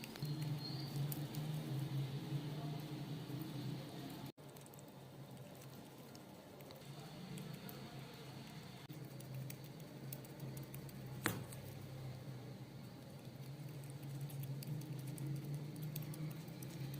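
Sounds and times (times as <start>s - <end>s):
squirrel chewing corn: 0.0s - 16.9s.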